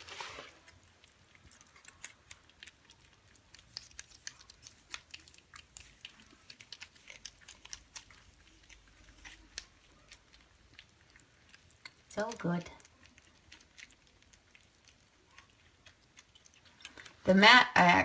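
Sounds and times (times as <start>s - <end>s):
kittens lapping and chewing: 0.0s - 17.4s.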